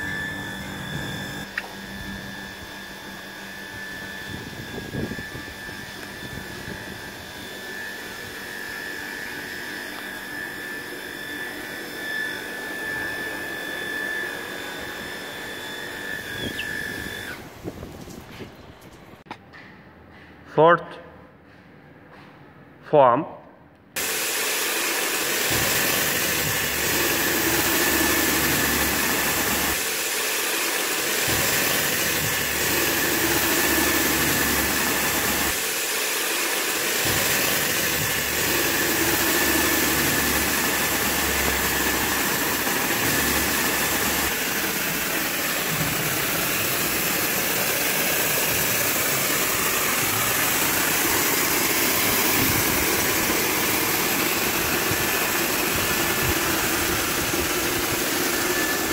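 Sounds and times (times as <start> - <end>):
pumps and motors humming: 0.0 - 19.3, 24.0 - 58.9.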